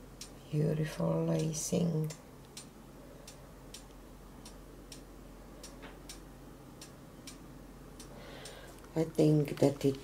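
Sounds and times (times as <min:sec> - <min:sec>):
faint regular ticking: 0:00.0 - 0:10.0
low steady hum: 0:00.0 - 0:10.0.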